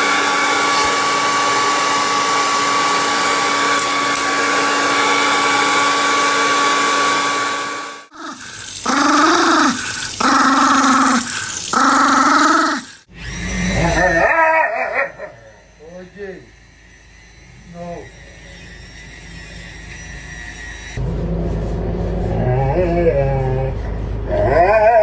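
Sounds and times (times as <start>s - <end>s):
blow dryer running: 0.0s - 22.3s.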